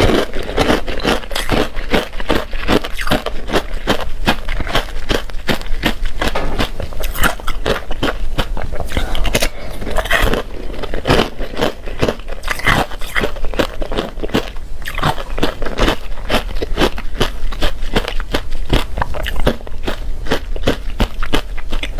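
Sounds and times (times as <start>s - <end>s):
ice crunching between teeth: 0.0s - 21.9s.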